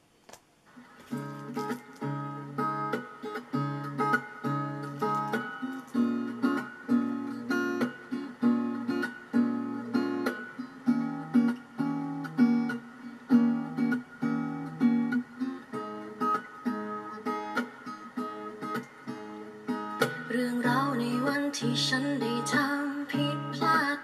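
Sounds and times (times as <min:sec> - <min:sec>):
strummed acoustic guitar chords: 0:00.8 - 0:24.0.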